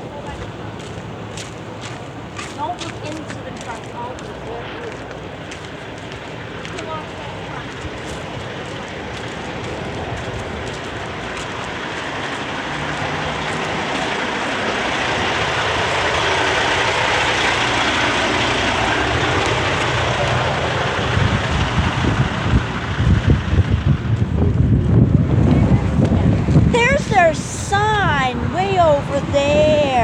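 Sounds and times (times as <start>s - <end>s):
passing road vehicle: 0.0s - 30.0s
wind buffeting microphone: 0.0s - 30.0s.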